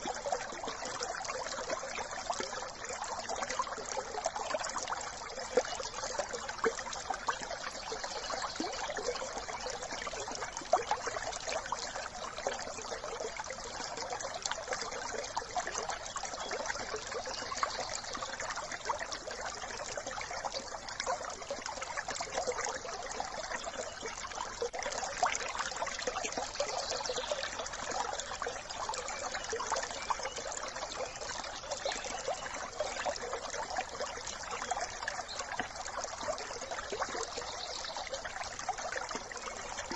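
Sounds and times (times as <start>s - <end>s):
brook trickling over stones: 0.0s - 39.9s.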